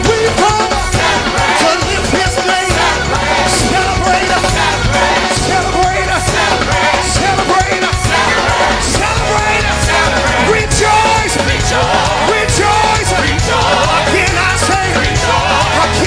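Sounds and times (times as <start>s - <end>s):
gospel band with drums: 0.0s - 16.0s
singers' voices: 0.0s - 16.0s.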